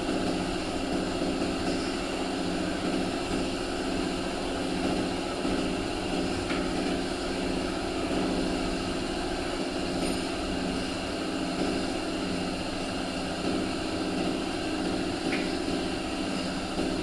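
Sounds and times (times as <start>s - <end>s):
steady machine drone: 0.0s - 17.0s.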